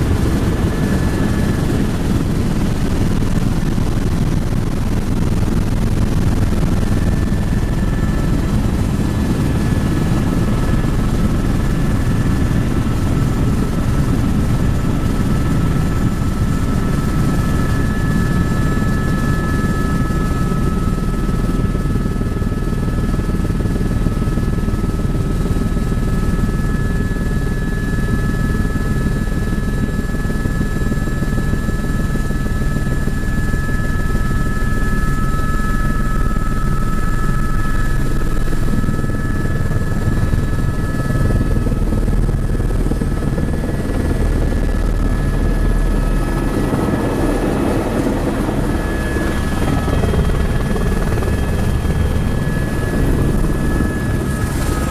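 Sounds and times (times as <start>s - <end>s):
helicopter rotor and engine rumble: 0.0s - 54.9s.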